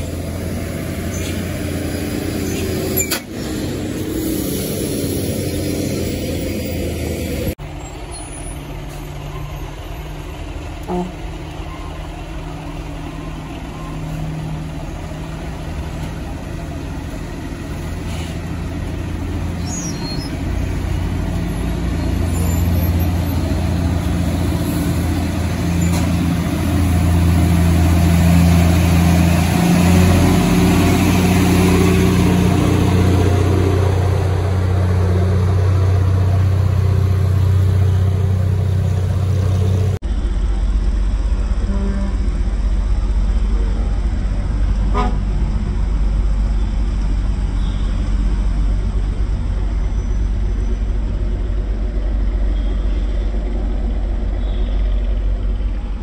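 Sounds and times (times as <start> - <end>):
diesel truck engines in traffic: 0.0 - 56.0.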